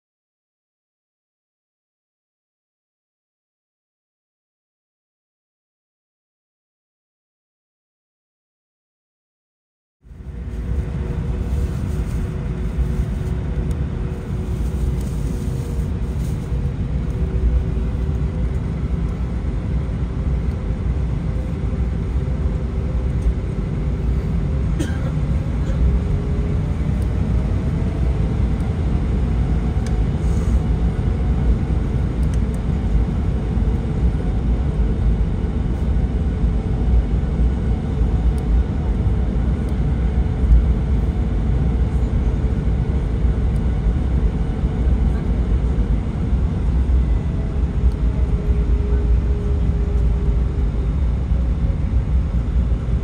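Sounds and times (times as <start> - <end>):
jet engines rumbling and whining: 10.1 - 53.0.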